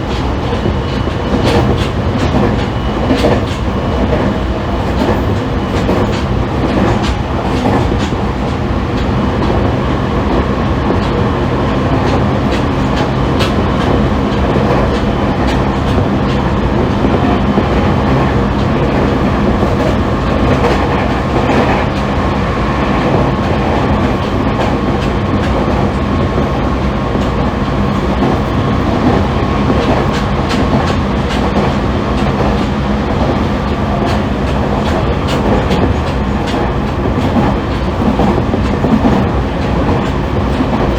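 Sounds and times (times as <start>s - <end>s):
wheels clicking over rail joints: 0.0s - 22.2s, 22.9s - 40.9s
wheels rumbling on rail: 0.0s - 40.9s.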